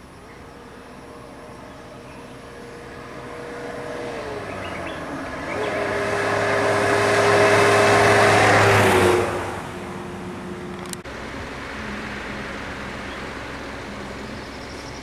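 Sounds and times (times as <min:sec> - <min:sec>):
van engine hum: 0:00.0 - 0:15.0.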